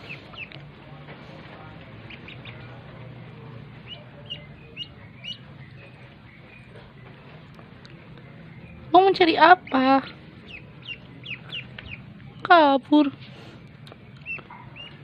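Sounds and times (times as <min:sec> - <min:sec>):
duckling peeping: 0:00.0 - 0:00.6, 0:01.9 - 0:15.0.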